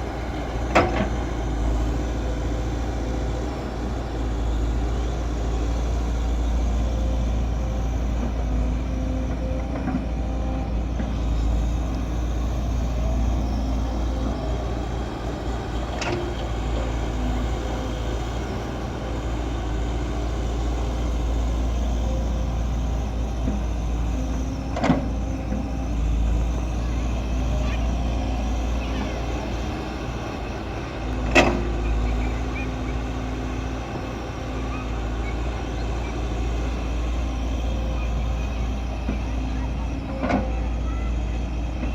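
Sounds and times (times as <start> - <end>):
diesel earth-moving machinery running: 0.0 - 41.9.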